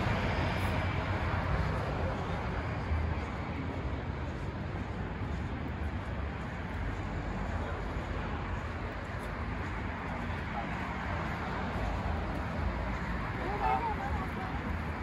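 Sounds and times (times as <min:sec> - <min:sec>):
city street traffic hum: 0:00.0 - 0:15.0.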